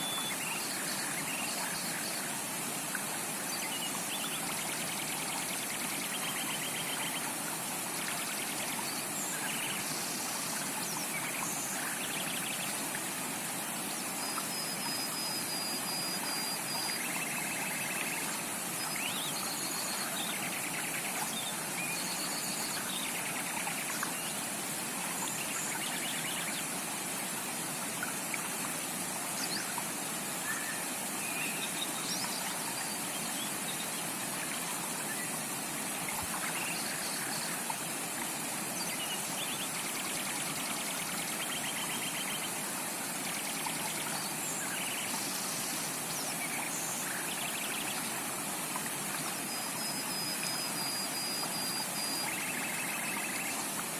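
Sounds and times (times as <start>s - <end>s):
forest creek rushing: 0.0s - 53.9s.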